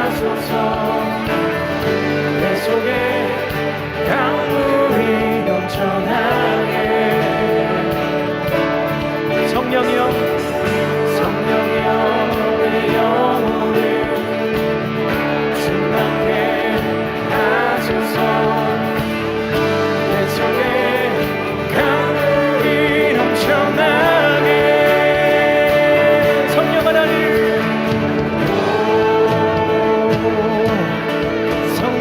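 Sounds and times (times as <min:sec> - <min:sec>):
sustained instrumental accompaniment: 0:00.0 - 0:32.0
worship song with vibrato vocal: 0:00.0 - 0:32.0.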